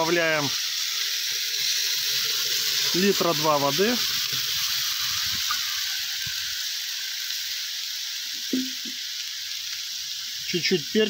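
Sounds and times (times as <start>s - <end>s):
sizzling and hissing in hot fat: 0.0s - 11.0s.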